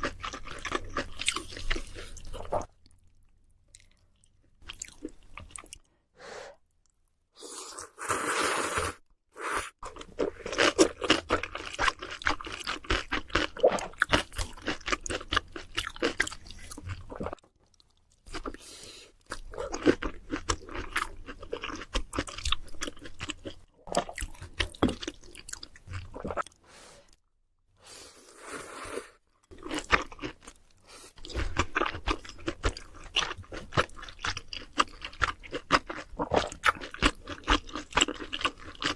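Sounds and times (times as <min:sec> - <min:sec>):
chewing crunchy fried food: 0:00.0 - 0:05.9, 0:09.8 - 0:26.6, 0:29.4 - 0:38.9.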